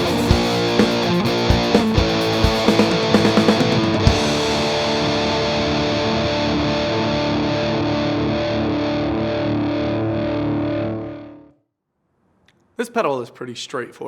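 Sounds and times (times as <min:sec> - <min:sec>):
distorted electric guitar chord: 0:00.0 - 0:11.5.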